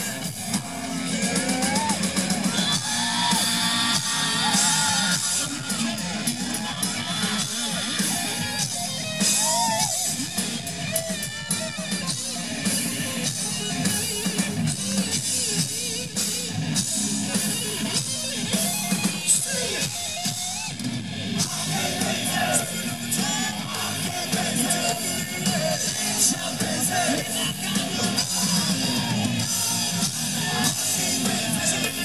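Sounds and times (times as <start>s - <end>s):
distorted electric guitar: 0.0s - 32.0s
hard rock band playing live: 0.0s - 32.0s
pounding drum kit: 0.0s - 32.0s.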